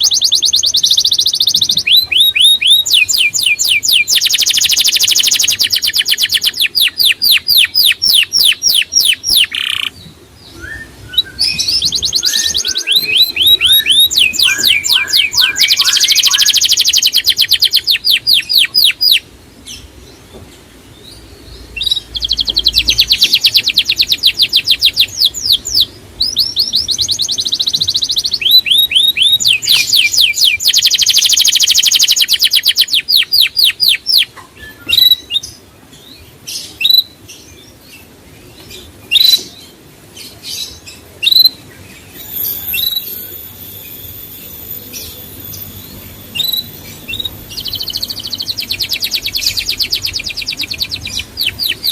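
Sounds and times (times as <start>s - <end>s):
songbird singing fast trills: 0.0s - 20.2s, 20.8s - 51.9s.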